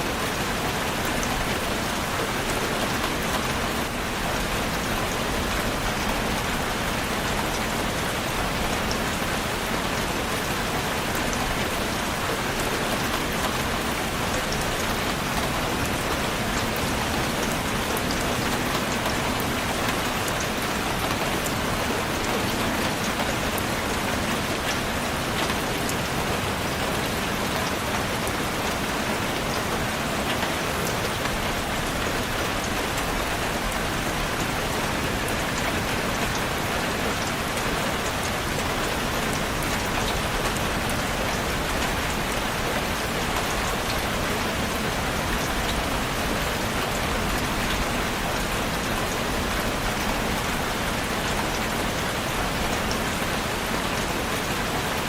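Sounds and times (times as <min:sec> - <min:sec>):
patter of raindrops: 0:00.0 - 0:55.0
steady rain falling: 0:00.0 - 0:55.0.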